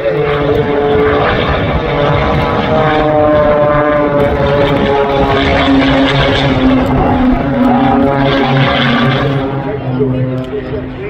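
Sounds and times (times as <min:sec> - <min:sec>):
propeller plane engine in flight: 0:00.0 - 0:11.0.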